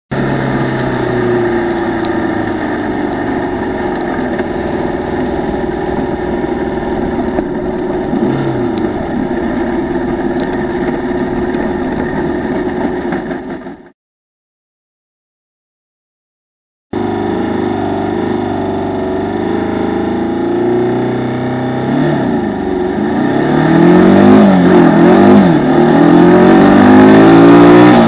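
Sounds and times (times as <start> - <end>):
racing car engine running hard: 0.1 - 13.9, 17.0 - 28.0.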